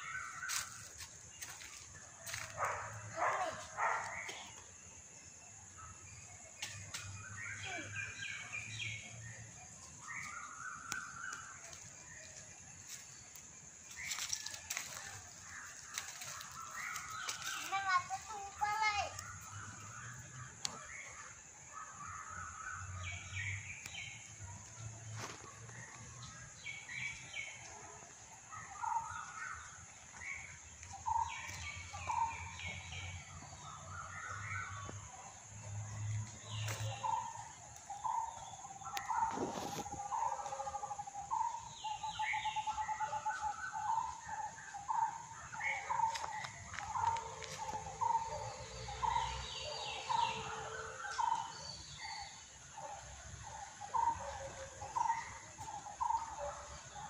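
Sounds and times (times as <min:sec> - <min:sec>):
birds chirping and whistling: 0:00.0 - 0:05.0, 0:05.6 - 0:24.5, 0:28.4 - 0:57.0.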